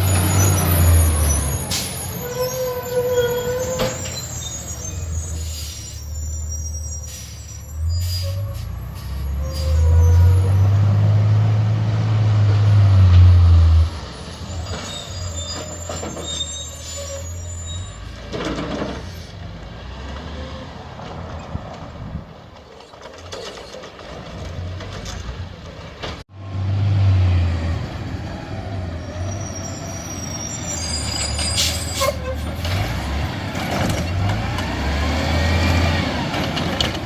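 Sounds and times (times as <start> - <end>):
diesel truck engine revving: 0.0 - 21.2, 26.2 - 37.0.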